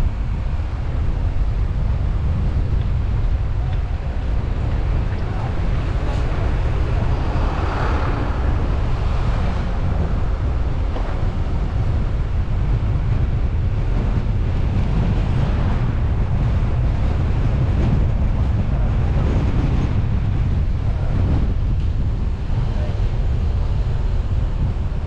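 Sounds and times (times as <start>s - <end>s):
car road and engine noise: 0.0s - 25.0s
wind buffeting microphone: 0.0s - 25.0s.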